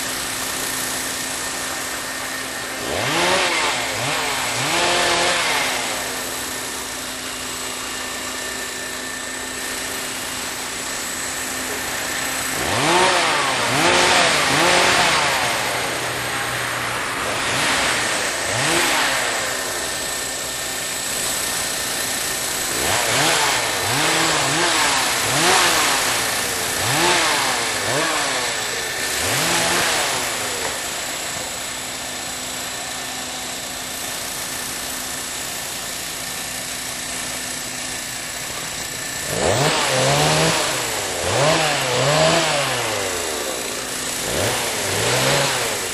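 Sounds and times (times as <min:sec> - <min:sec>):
model helicopter motor and rotor: 0:00.0 - 0:45.9.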